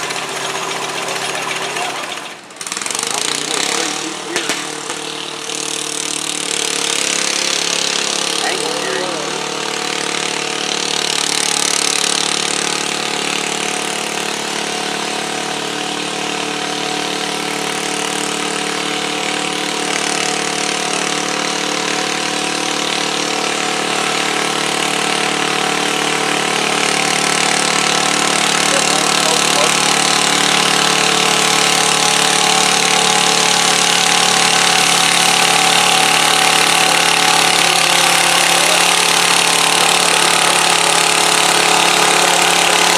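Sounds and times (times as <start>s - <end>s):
garden tractor engine running: 0.0s - 42.9s.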